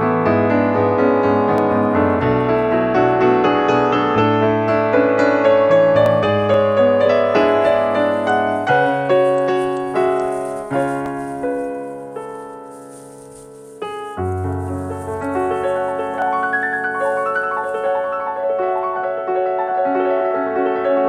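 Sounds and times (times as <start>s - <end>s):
background piano music: 0.0s - 21.0s.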